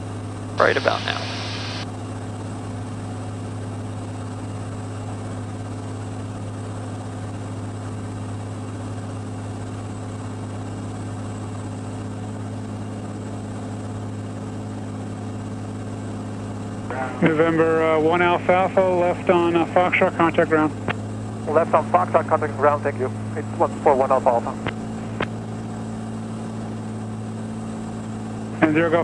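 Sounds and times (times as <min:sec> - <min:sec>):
aircraft engine and propeller drone: 0:00.0 - 0:29.0.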